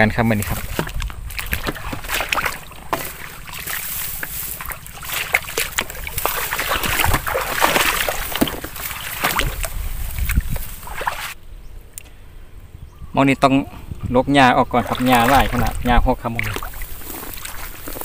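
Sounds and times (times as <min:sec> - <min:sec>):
dry grass crackling: 0:00.0 - 0:11.4, 0:14.8 - 0:18.0
splashing steps in shallow water: 0:00.0 - 0:11.4, 0:14.6 - 0:18.0.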